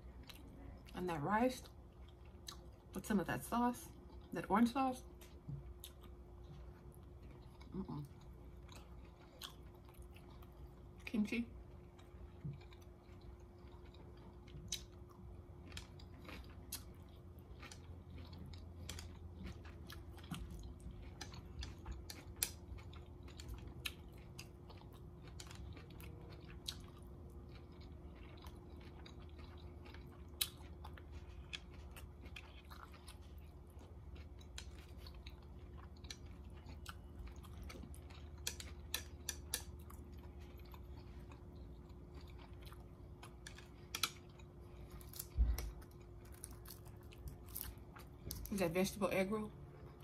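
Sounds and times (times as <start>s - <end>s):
close-up chewing: 0.0s - 3.1s, 3.7s - 48.6s.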